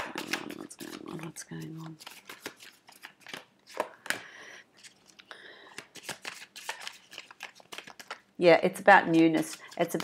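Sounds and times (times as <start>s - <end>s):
cards clicking while shuffled: 0.0s - 8.2s, 9.1s - 10.0s
cards rustling: 0.0s - 8.3s, 9.1s - 10.0s.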